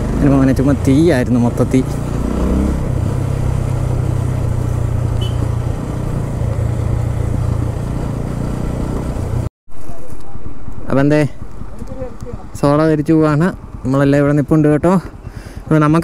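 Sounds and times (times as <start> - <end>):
motorcycle engine running: 0.0 - 9.5, 10.4 - 16.0.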